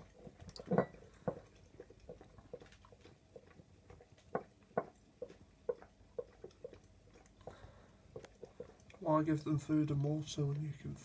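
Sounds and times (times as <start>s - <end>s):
dog lapping liquid: 0.0s - 9.1s.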